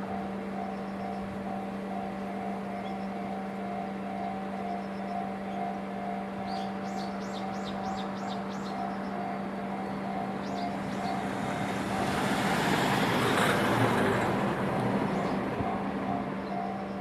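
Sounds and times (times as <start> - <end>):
level crossing warning bell ringing: 0.0 - 17.0.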